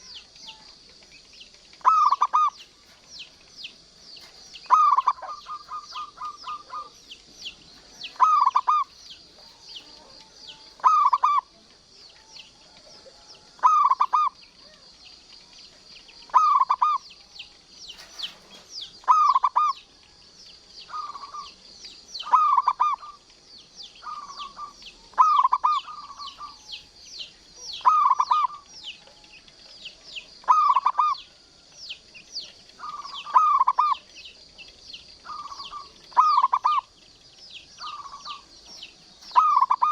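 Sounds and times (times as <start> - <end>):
dove cooing: 0.0 - 20.1, 20.9 - 23.3, 23.9 - 31.7, 32.4 - 37.0, 37.6 - 39.9
high chirping: 0.0 - 39.9.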